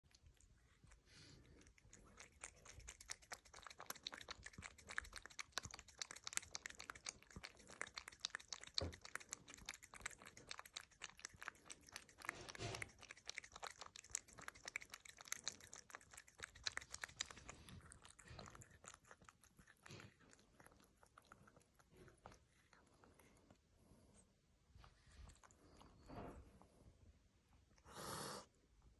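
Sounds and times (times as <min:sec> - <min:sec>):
cat lapping: 0:00.0 - 0:26.8.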